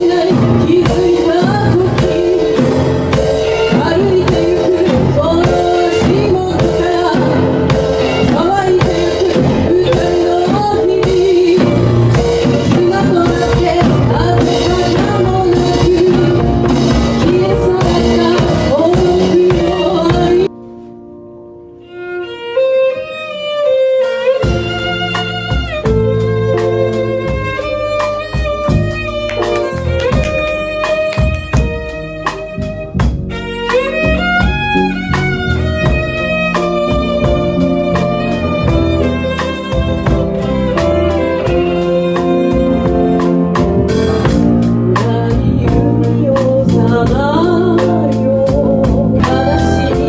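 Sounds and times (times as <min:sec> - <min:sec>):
solo violin melody: 0:00.0 - 0:20.5, 0:21.7 - 0:50.0
music with steady beat: 0:00.0 - 0:21.7, 0:23.0 - 0:50.0.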